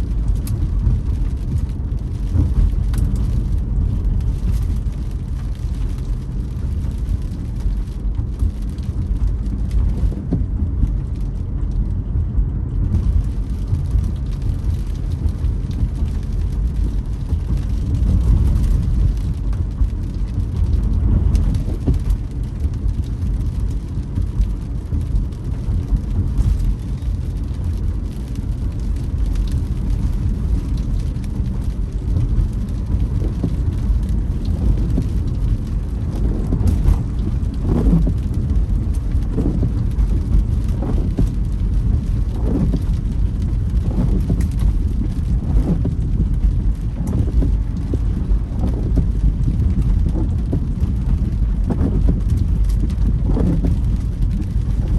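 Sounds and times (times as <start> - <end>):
car road and engine rumble: 0.0 - 54.9
rain on car: 0.0 - 54.9
windscreen wipers creaking: 0.0 - 54.9.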